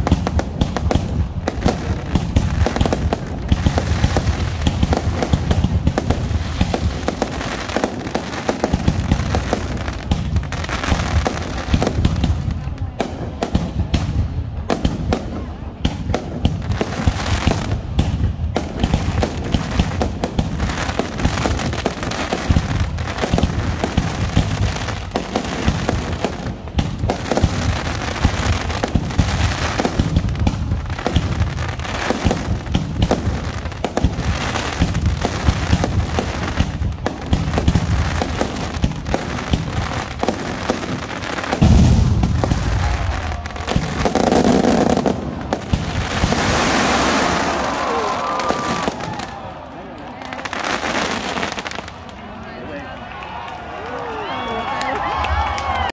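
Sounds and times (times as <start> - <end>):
fireworks booming and crackling: 0.0 - 52.7.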